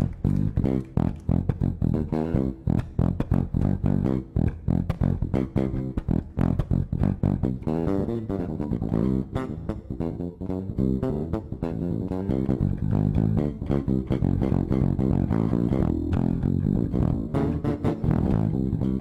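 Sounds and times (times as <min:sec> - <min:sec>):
fingerstyle bass guitar: 0:00.0 - 0:19.0.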